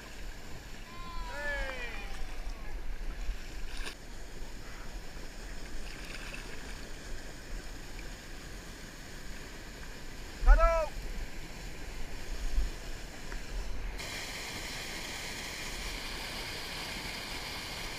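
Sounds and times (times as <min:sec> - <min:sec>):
whitewater rushing down weir: 0:00.0 - 0:17.9.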